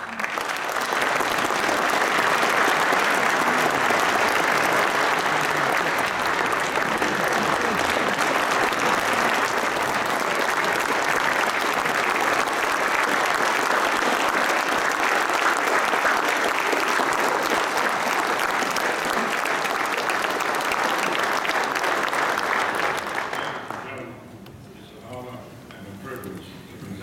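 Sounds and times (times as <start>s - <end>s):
audience applauding: 0.0s - 24.2s.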